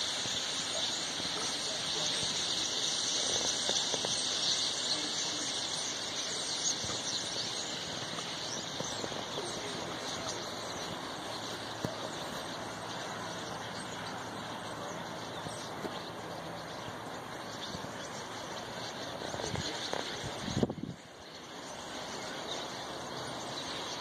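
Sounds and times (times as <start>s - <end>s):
flock of birds chattering: 0.0s - 24.0s.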